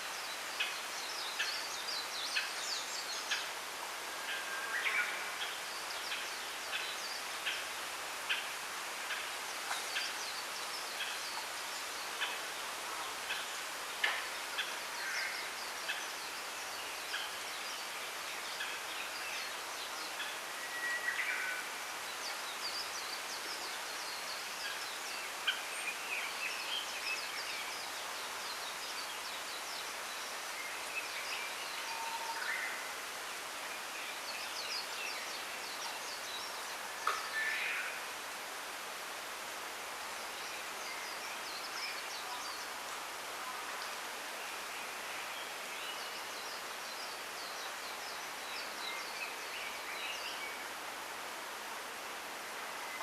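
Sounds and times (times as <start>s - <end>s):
wind in bamboo leaves: 0.0s - 53.0s.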